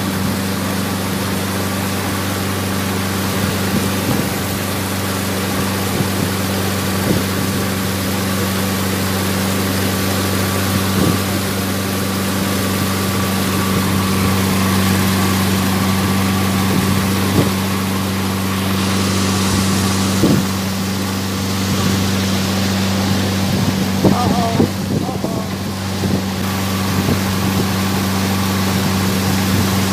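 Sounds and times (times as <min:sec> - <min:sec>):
motorboat engine hum: 0:00.0 - 0:29.9
water rushing past hull: 0:00.0 - 0:29.9.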